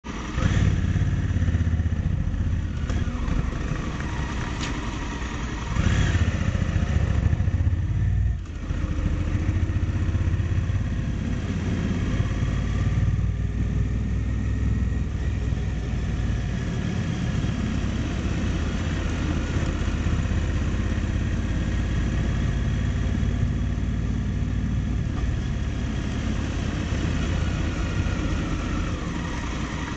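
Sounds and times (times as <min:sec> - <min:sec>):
motorcycle engine running: 0:00.0 - 0:29.9
road and wind noise: 0:00.0 - 0:29.9.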